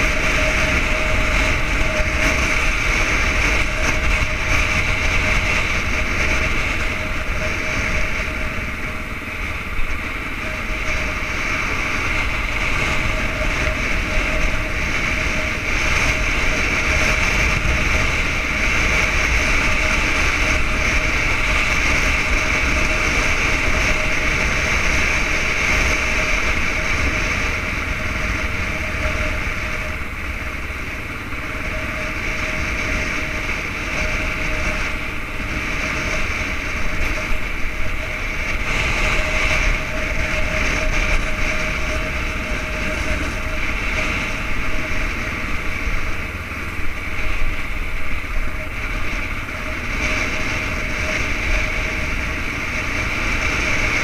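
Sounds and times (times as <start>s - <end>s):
motorcycle engine running: 0.0s - 54.0s
wind rushing over camera: 0.0s - 54.0s.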